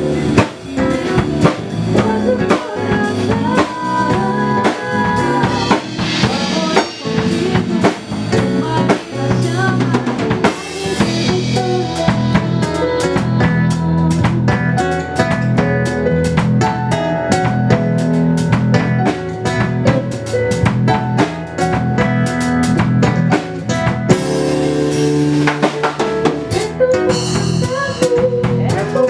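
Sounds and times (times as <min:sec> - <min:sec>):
drum kit beat: 0:00.0 - 0:29.0
live band playing: 0:00.0 - 0:29.0.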